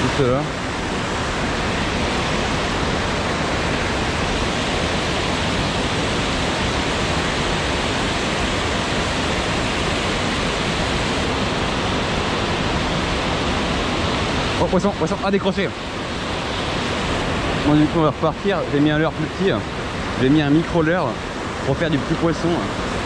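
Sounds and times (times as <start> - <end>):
water rushing over a weir: 0.0 - 23.0.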